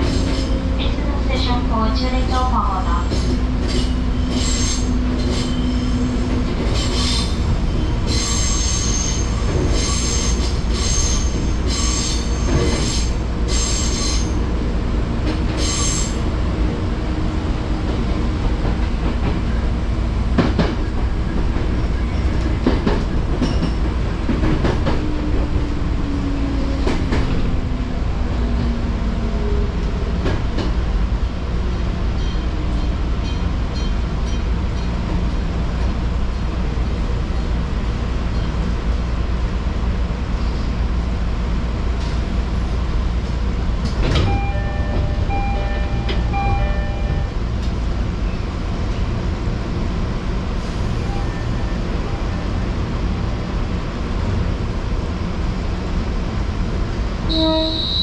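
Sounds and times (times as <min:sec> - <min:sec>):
train running low rumble: 0:00.0 - 0:58.0.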